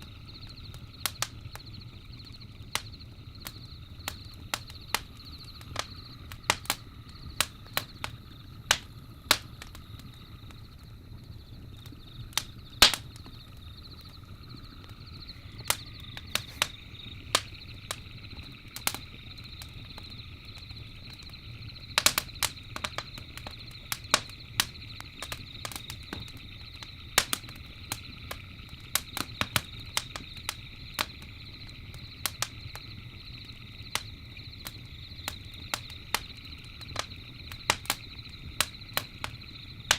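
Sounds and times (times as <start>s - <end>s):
campfire crackling and popping: 0.0s - 39.9s
low rumble of burning fire: 0.0s - 39.9s
night insects chorus: 0.0s - 39.9s.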